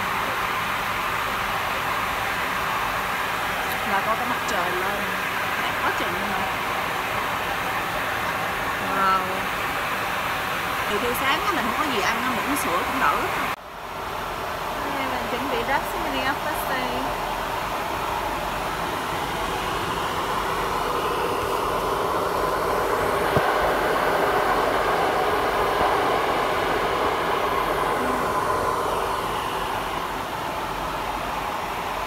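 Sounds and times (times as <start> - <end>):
jet airliner cabin noise: 0.0 - 32.0.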